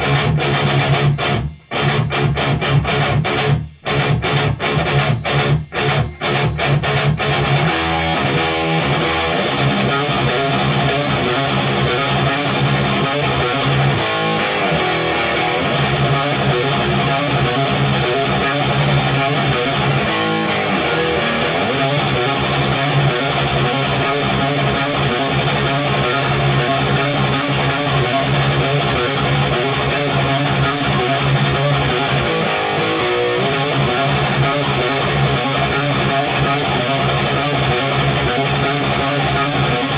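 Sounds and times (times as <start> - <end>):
distorted electric guitar riffing: 0.0 - 39.9.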